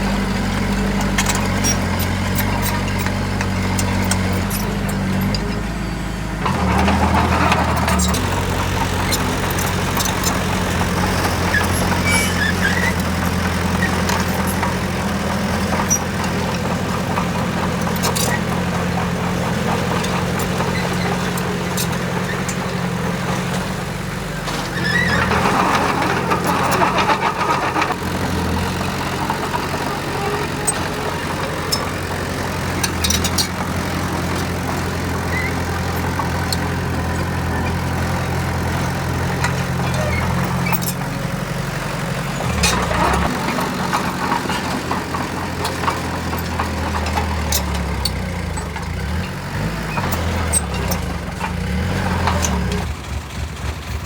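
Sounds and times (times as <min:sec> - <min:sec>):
heavy diesel machinery engine: 0:00.0 - 0:54.0
machinery grinding and clanking: 0:00.0 - 0:54.0.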